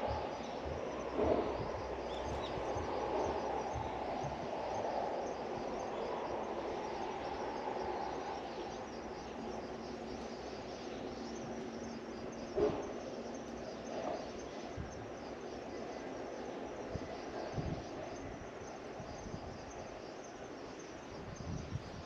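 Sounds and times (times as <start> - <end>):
faint steady hum: 0.0 - 22.0
outdoor background noise: 0.0 - 22.0.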